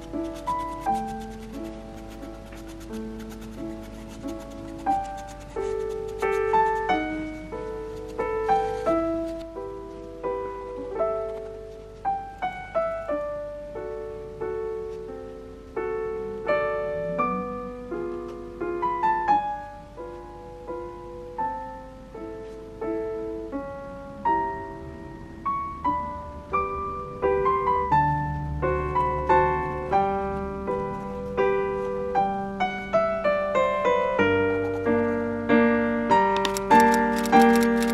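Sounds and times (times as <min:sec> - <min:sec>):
gentle piano melody: 0:00.0 - 0:37.9.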